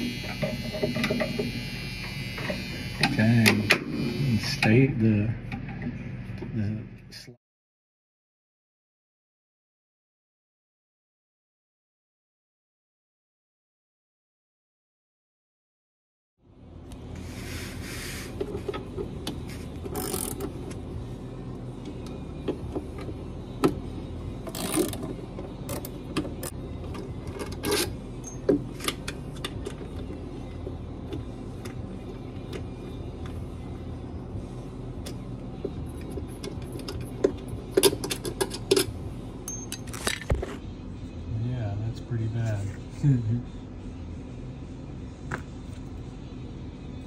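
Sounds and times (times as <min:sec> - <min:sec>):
low mechanical hum: 0:00.0 - 0:07.4, 0:16.4 - 0:47.0.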